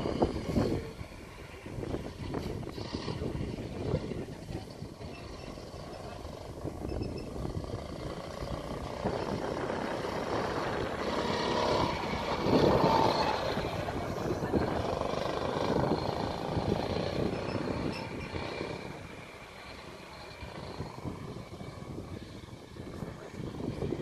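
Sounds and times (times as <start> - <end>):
go-kart engine passing: 0.0 - 24.0.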